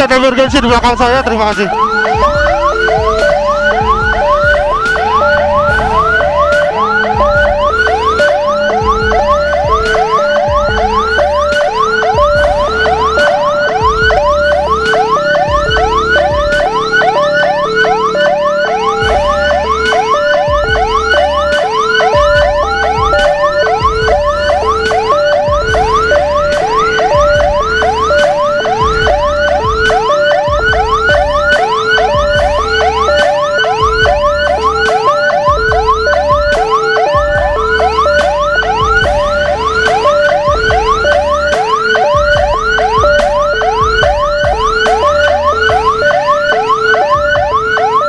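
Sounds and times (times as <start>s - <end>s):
siren whooping: 0.0s - 48.0s
two-note hi-lo siren: 0.0s - 48.0s.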